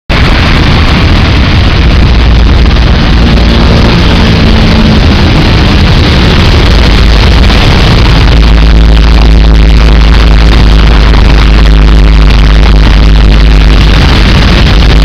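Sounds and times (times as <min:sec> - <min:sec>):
deep rumble of engines: 0:00.1 - 0:15.0
heavy rain: 0:00.1 - 0:15.0.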